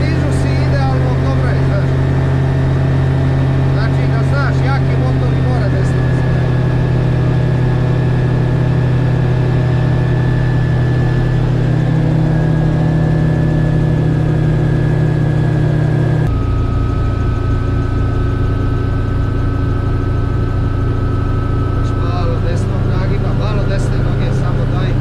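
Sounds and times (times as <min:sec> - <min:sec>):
gyrocopter engine running: 0:00.0 - 0:25.0.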